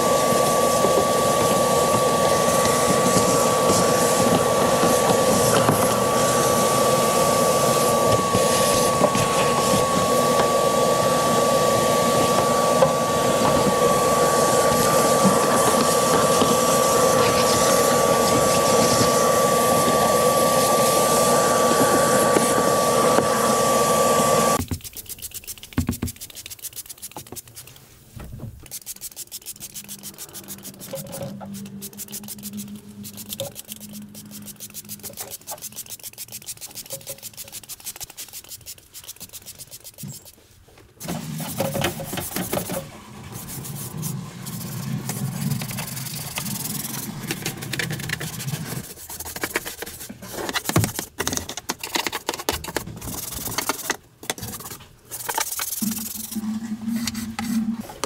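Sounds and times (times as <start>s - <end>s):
brush scrubbing rubber mat: 0.3s - 51.2s, 51.9s - 58.0s.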